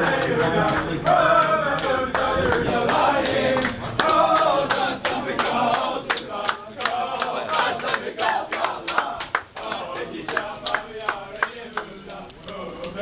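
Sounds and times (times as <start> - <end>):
group of men singing: 0.0 - 13.0
hand claps: 0.1 - 13.0.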